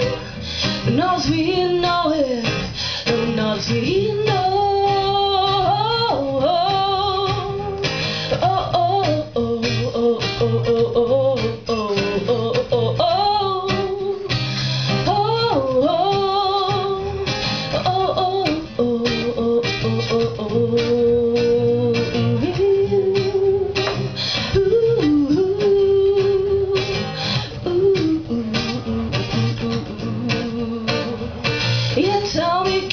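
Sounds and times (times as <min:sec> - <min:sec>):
acoustic guitar strumming: 0:00.0 - 0:32.9
woman singing: 0:00.0 - 0:32.9.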